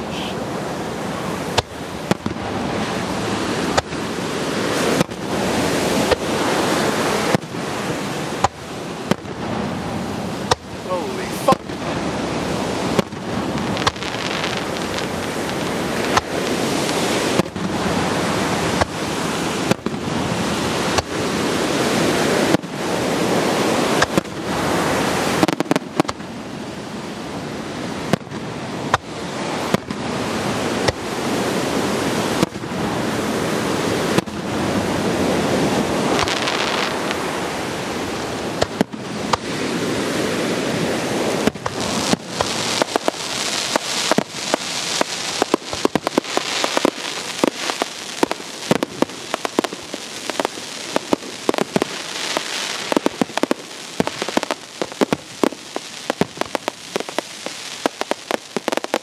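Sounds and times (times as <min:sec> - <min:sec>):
dense rushing noise: 0:00.0 - 0:59.0
fireworks bursting with bangs: 0:00.0 - 0:59.0.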